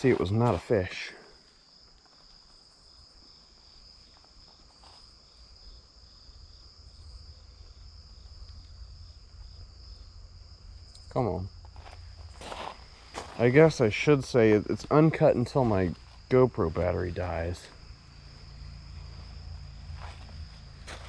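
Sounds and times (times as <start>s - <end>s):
crickets trilling: 0.0s - 21.0s
insect chirping: 0.0s - 21.0s.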